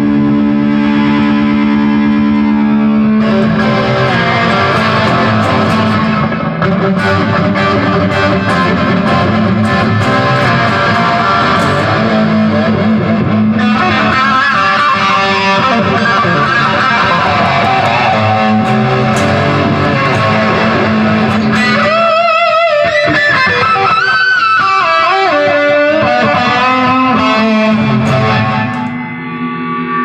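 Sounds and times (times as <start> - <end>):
electric guitar chords strummed: 0.0 - 30.0
electric guitar lead with vibrato: 0.0 - 30.0.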